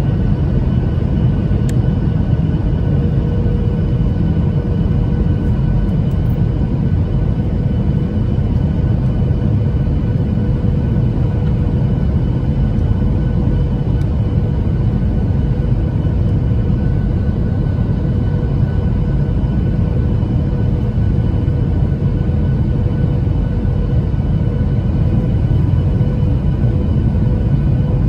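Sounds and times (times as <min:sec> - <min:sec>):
engine whine: 0:00.0 - 0:28.0
jet engines and airflow rumbling: 0:00.0 - 0:28.0.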